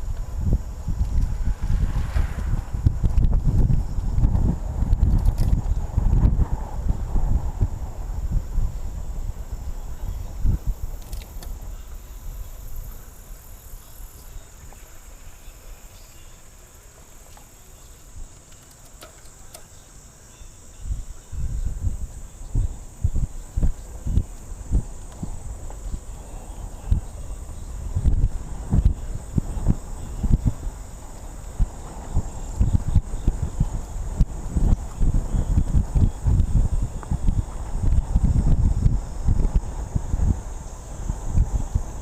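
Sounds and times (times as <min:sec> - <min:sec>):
wind buffeting microphone: 0:00.0 - 0:15.3, 0:20.8 - 0:42.0
insects buzzing: 0:00.0 - 0:42.0.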